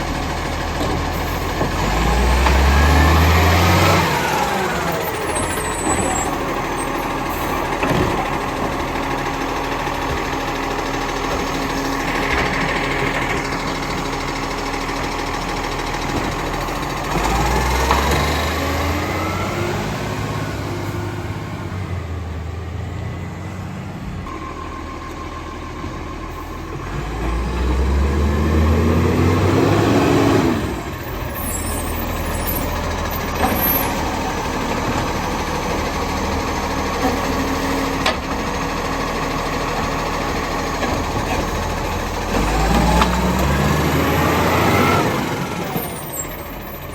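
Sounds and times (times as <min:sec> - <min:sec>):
garbage truck diesel engine idling: 0:00.0 - 0:27.1, 0:30.7 - 0:46.9.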